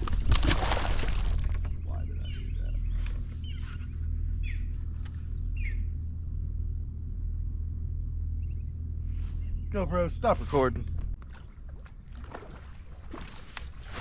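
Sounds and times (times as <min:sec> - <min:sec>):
birds chirping: 0:00.0 - 0:06.6, 0:08.2 - 0:14.0
steady low rumble: 0:00.0 - 0:13.0.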